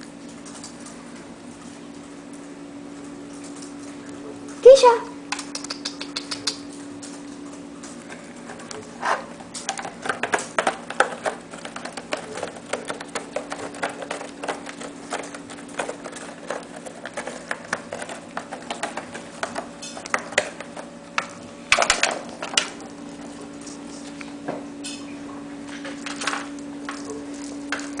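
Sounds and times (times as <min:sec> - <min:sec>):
paws skittering on tile floor: 0:00.0 - 0:24.4, 0:25.6 - 0:28.0
steady low hum: 0:00.0 - 0:28.0.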